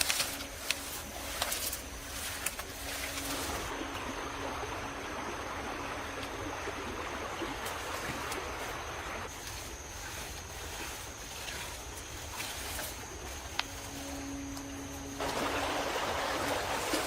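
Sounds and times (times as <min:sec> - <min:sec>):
water rushing in a stream: 0:00.0 - 0:17.0.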